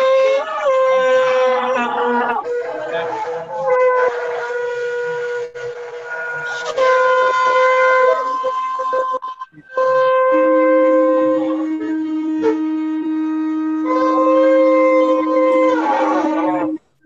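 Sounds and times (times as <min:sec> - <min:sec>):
high wavering shofar blast: 0:00.0 - 0:17.0
low shofar blast: 0:00.0 - 0:17.0.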